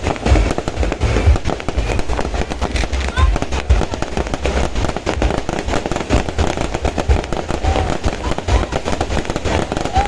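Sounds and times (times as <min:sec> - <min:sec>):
deep fireworks booms: 0:00.0 - 0:10.0
fireworks cracking and popping: 0:00.0 - 0:10.0.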